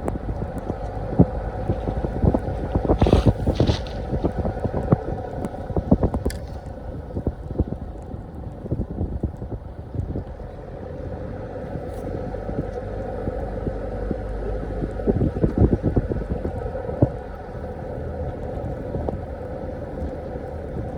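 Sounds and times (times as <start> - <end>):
vehicle rumbling on rough road: 0.0 - 20.9.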